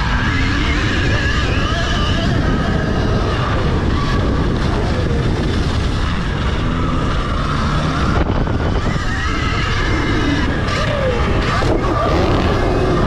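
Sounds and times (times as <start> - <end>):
wind and track noise: 0.0 - 13.0.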